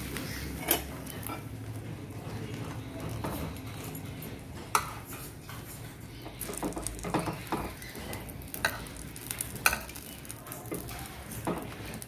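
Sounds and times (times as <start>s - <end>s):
light sizzle of oil: 0.0s - 12.0s.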